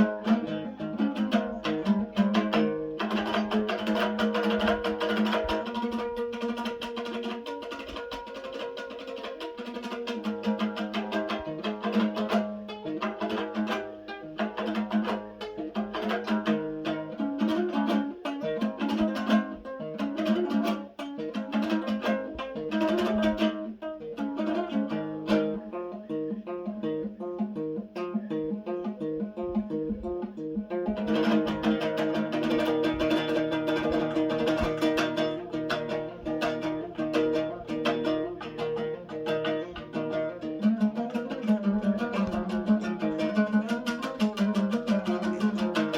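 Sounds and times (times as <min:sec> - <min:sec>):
plucked string instrument music: 0:00.0 - 0:45.9.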